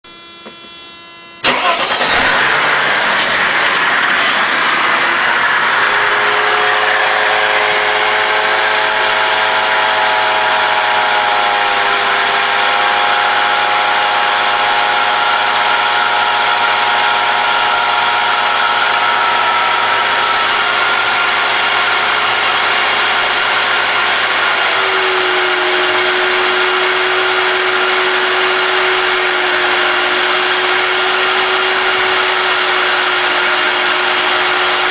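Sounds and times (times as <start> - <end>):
engine idling with whirring whine: 0.1 - 34.9
car engine starting: 1.4 - 34.9.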